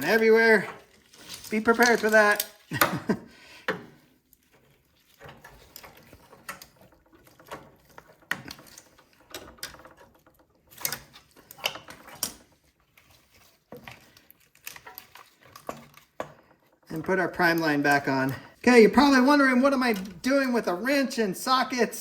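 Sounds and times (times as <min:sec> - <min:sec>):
light clicks and knocks of hand work: 0:00.0 - 0:19.2.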